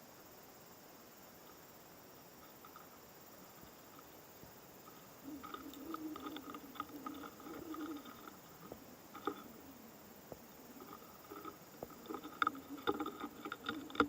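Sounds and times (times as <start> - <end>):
beetle scratching and clicking: 1.4 - 4.2, 4.8 - 9.6, 10.3 - 14.0.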